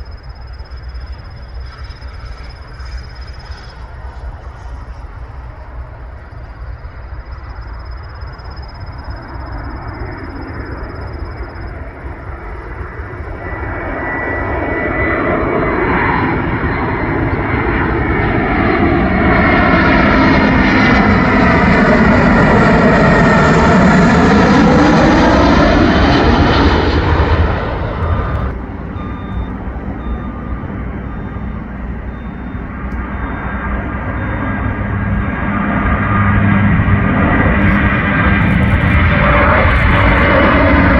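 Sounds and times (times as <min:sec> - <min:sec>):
jet airliner passing: 0:00.0 - 0:40.9.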